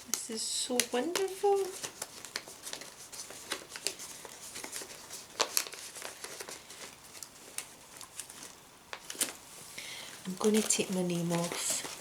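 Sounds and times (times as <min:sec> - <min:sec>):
paper and plastic crinkling: 0:00.0 - 0:12.0.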